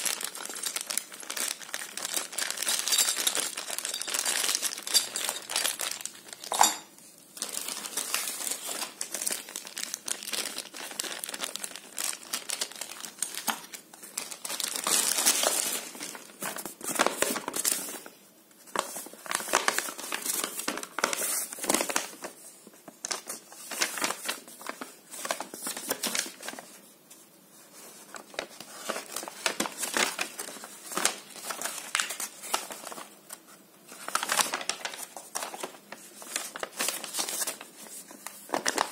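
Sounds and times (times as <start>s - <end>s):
paper sheets rustling: 0.0s - 6.4s, 7.4s - 38.9s
plastic bags crinkling: 0.0s - 26.8s, 28.0s - 38.9s.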